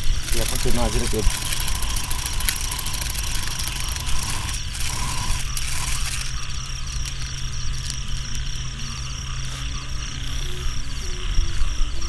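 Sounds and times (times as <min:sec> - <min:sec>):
frogs and insects trilling: 0:00.0 - 0:12.0
steady low drone: 0:00.0 - 0:12.0.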